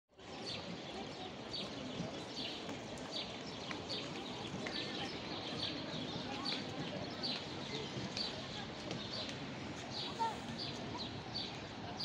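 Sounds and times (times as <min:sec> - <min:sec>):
outdoor background noise: 0:00.1 - 0:12.0.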